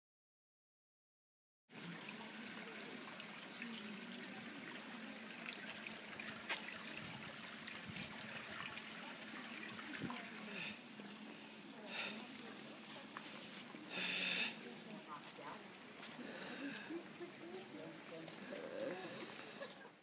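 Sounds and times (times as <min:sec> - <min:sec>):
fountain water trickling: 0:01.7 - 0:20.0.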